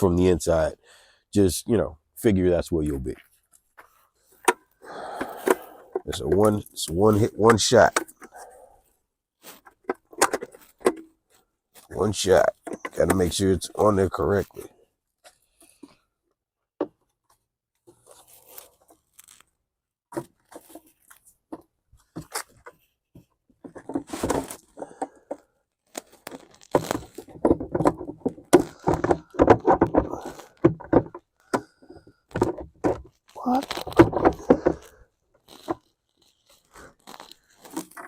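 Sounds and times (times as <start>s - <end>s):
plastic parts clicking and scraping: 3.1s - 16.1s, 16.8s - 38.0s.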